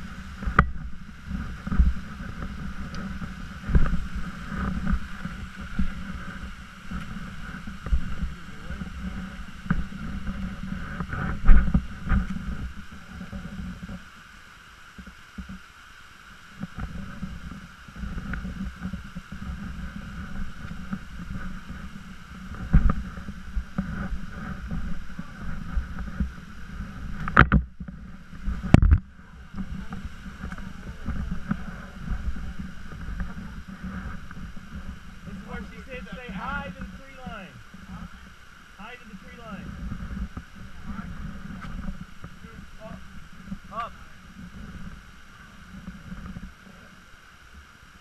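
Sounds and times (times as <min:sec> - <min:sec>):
wind rumble on microphone: 0:00.0 - 0:48.0.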